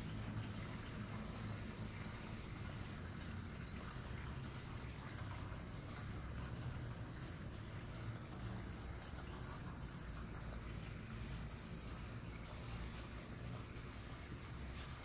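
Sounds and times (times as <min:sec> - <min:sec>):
low steady hum: 0:00.0 - 0:15.0
water trickling: 0:00.0 - 0:15.0.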